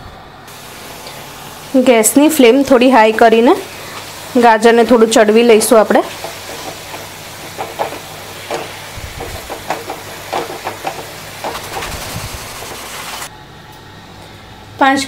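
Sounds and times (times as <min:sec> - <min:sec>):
carrots sizzling in hot fat: 0:00.5 - 0:13.3.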